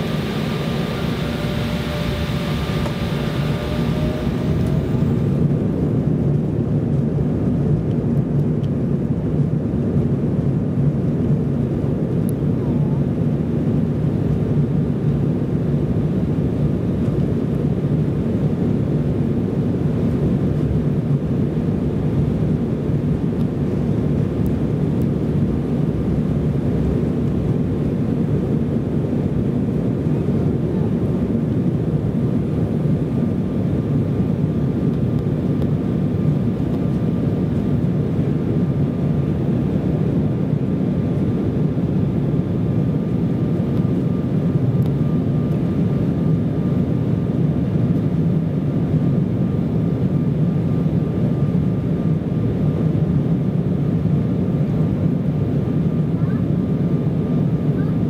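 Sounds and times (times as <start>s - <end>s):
faint engine whine: 0.0s - 58.0s
jet engines deep rumble: 0.0s - 58.0s.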